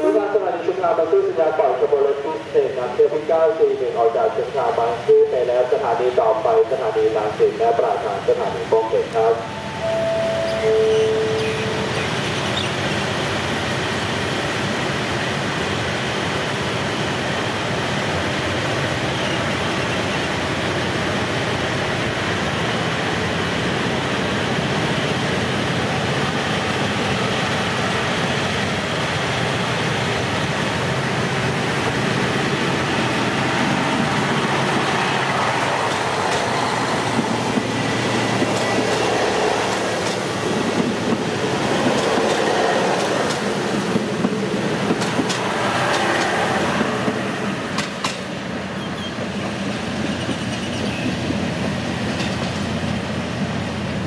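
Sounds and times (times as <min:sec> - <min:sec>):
diesel train engine hum: 0:00.0 - 0:54.0
train wheel noise: 0:06.0 - 0:54.0.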